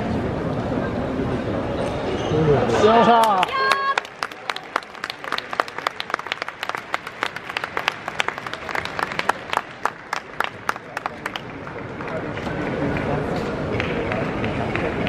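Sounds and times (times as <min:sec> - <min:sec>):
audience applause: 0:02.9 - 0:15.0.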